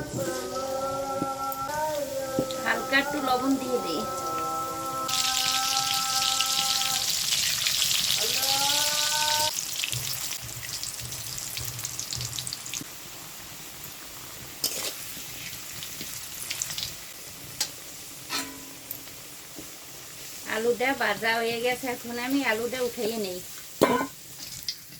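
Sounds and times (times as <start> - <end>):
potato sizzling in hot oil: 1.8 - 24.9.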